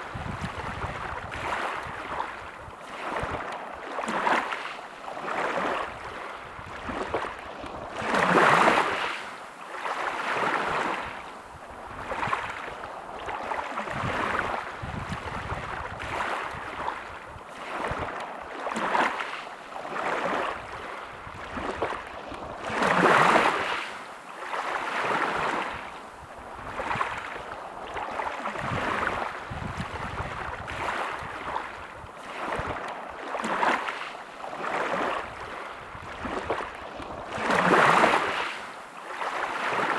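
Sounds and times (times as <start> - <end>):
large waves breaking: 0.0 - 39.9
sea waves washing: 0.0 - 39.9.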